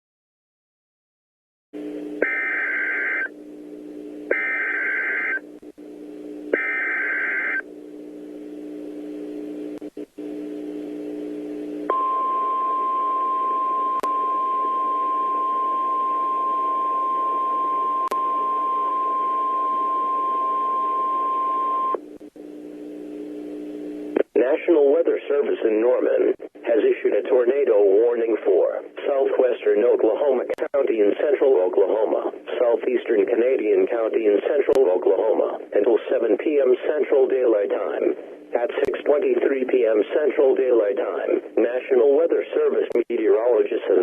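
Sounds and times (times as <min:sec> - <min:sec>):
low radio hum: 0:01.8 - 0:44.0.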